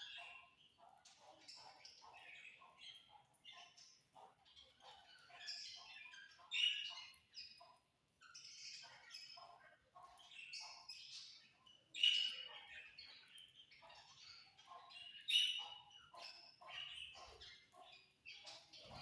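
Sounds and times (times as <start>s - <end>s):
budgerigars chirping and chattering: 0.0s - 19.0s.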